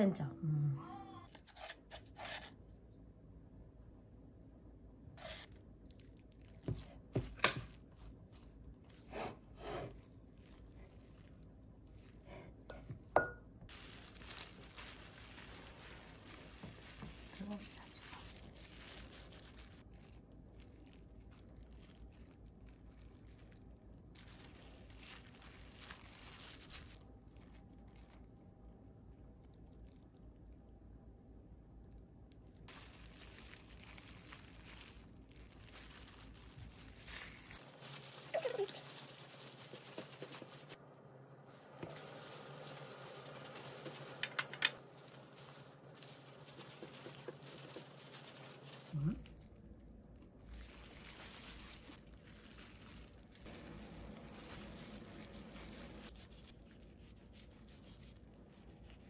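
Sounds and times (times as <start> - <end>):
plastic gloves crinkling: 5.2 - 30.6, 31.7 - 59.0.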